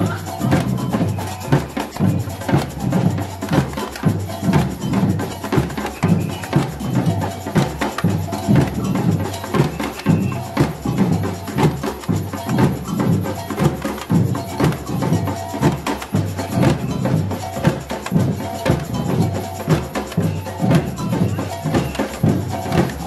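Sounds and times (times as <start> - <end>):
snare drum: 0.0 - 23.0.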